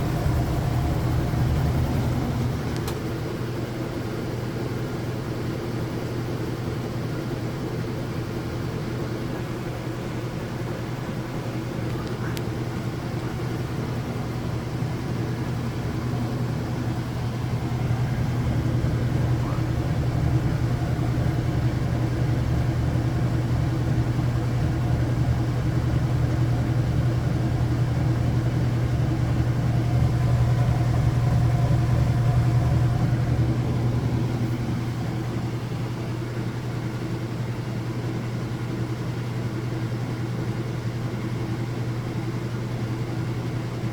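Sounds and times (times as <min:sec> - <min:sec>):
washing machine spinning hum: 0:00.0 - 0:43.9.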